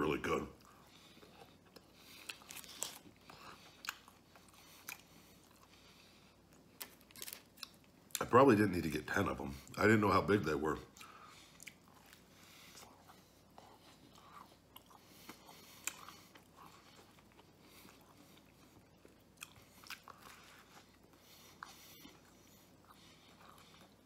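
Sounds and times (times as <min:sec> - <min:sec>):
faint close-up chewing: 0:00.2 - 0:08.4, 0:09.4 - 0:24.0.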